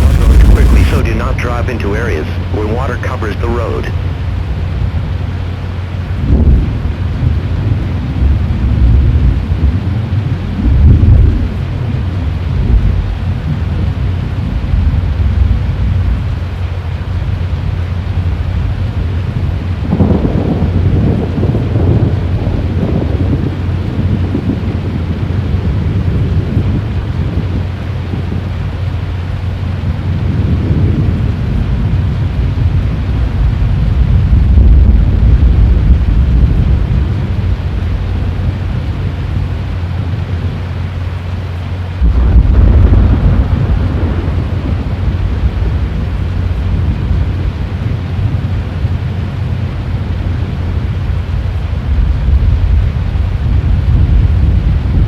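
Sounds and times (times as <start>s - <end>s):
storm wind buffeting microphone: 0.0s - 55.0s
thunder rumbling: 0.0s - 55.0s.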